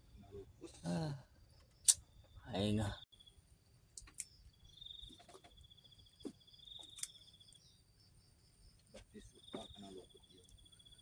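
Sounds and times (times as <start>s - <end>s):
insect trill: 0.0s - 11.0s.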